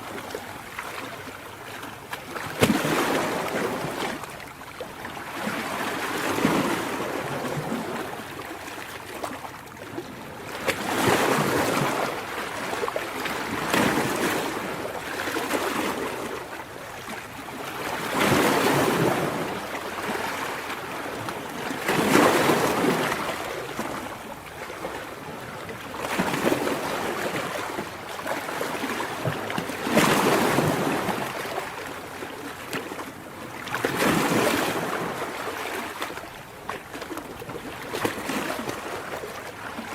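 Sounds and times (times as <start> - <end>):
ocean waves breaking: 1.8 - 4.4, 9.9 - 39.9.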